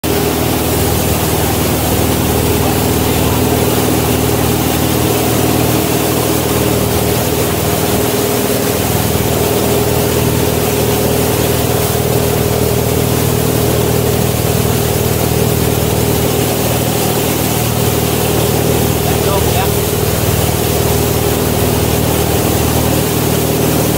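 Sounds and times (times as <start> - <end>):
boat engine running: 0.0 - 23.9
boat wake churning: 0.0 - 23.9.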